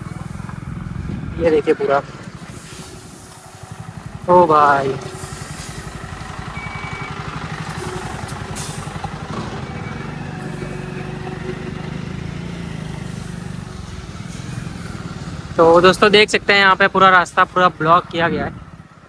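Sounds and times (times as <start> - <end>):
vehicle engine running low revs: 0.0 - 19.0.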